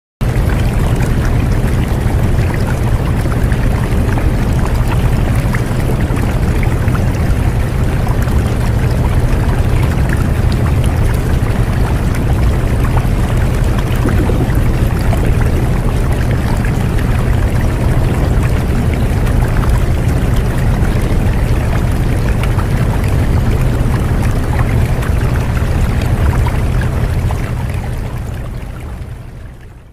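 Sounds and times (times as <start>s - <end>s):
heavy low rumble: 0.2s - 29.6s
rushing noise like running water: 0.2s - 29.9s.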